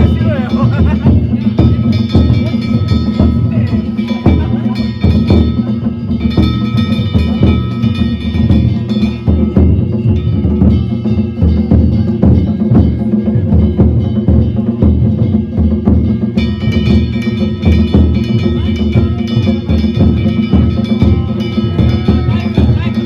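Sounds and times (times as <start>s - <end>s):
big drum beaten fast: 0.0s - 23.0s
hand gongs clanging: 0.0s - 23.0s.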